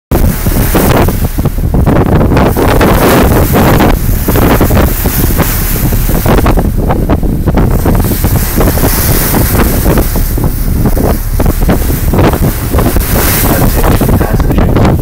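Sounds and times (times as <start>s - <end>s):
hull wash through choppy water: 0.1s - 15.0s
wind buffeting microphone: 0.1s - 15.0s.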